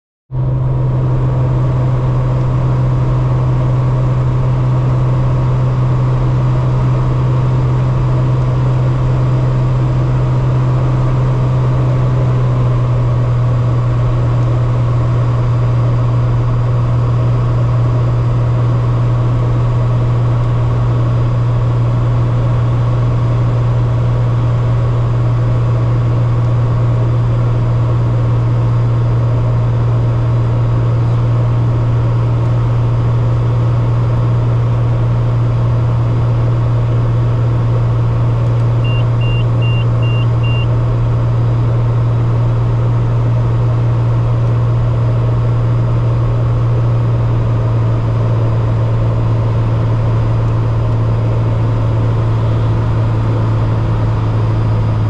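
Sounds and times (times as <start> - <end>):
light aircraft engine hum: 0.3 - 55.0.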